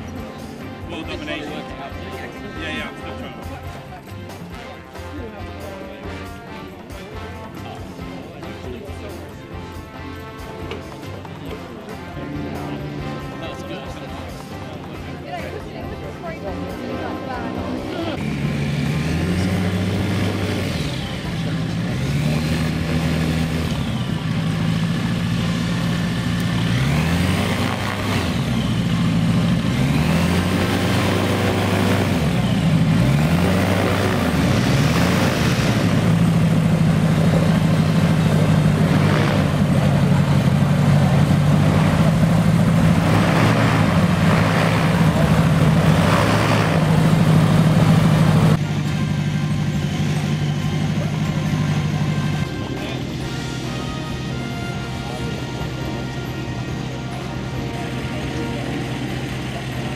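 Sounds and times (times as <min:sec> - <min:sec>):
gyrocopter engine and propeller: 0:00.0 - 0:59.9.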